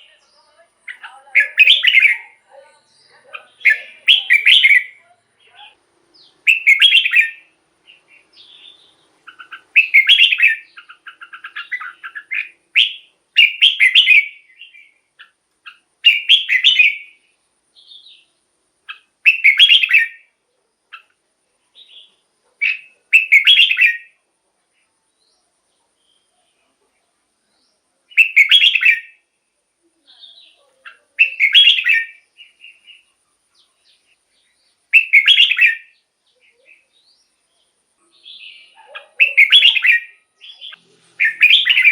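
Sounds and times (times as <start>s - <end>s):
bird song phrases: 0.0s - 41.9s
soft bird chirps: 0.0s - 41.9s.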